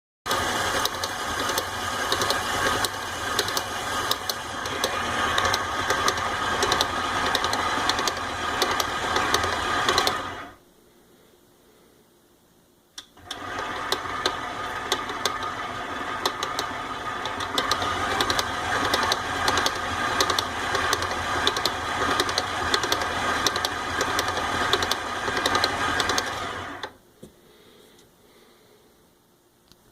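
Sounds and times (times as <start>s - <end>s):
stand mixer rapid clicking: 0.3s - 10.5s, 13.2s - 26.9s.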